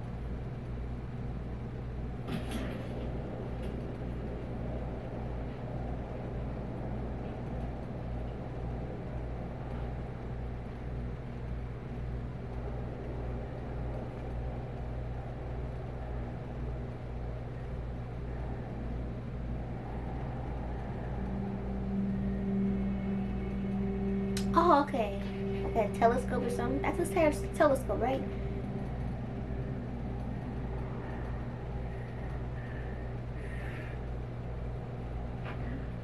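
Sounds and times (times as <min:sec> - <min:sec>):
low rumbling soundtrack drone: 0:00.0 - 0:36.0.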